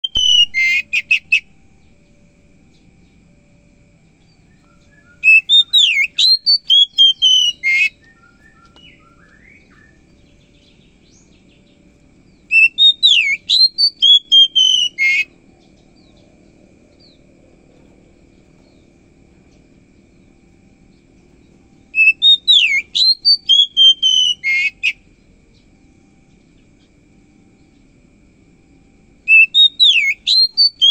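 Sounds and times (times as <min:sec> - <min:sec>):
bird singing whistled notes: 0:00.0 - 0:16.3, 0:20.1 - 0:26.9, 0:29.1 - 0:30.9.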